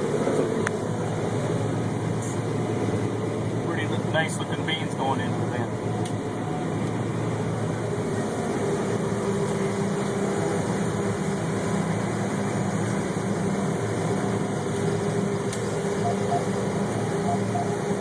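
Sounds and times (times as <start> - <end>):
combine harvester running: 0.0 - 18.0.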